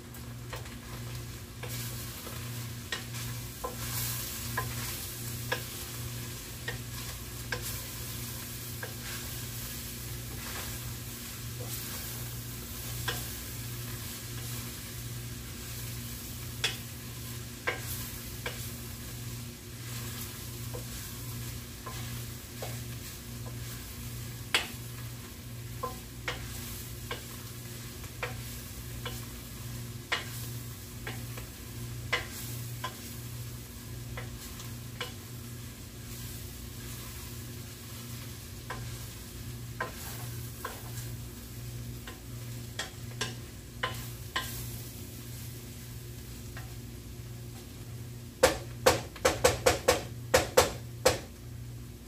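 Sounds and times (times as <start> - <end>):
food sizzling in a pot: 0.0 - 52.0.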